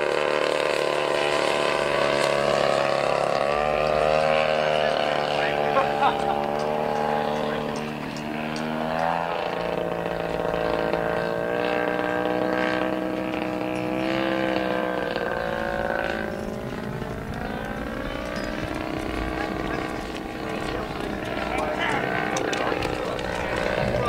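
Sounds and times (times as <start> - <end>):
model aircraft engine: 0.0 - 24.0.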